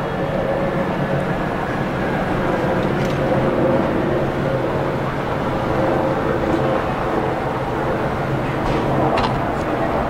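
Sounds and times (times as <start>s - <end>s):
electric locomotive humming: 0.0s - 10.0s.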